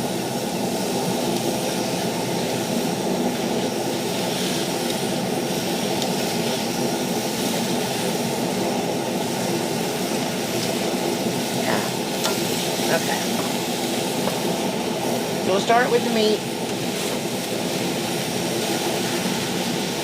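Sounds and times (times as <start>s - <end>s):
engine-like drone: 0.0s - 20.0s.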